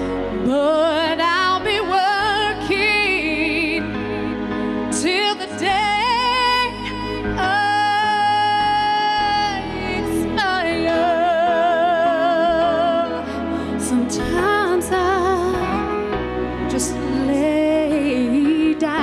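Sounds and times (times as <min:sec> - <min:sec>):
woman singing a slow ballad: 0:00.0 - 0:19.0.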